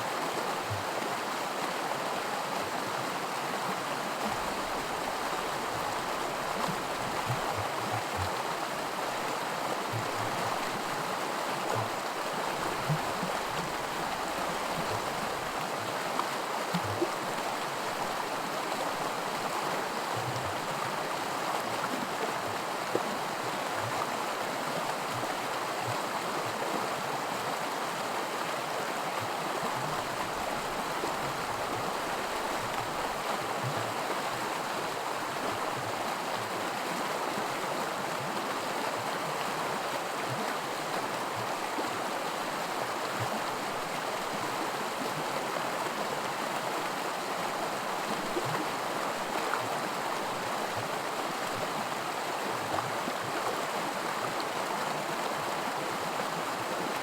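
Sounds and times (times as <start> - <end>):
creek babbling over rocks: 0.0 - 57.0.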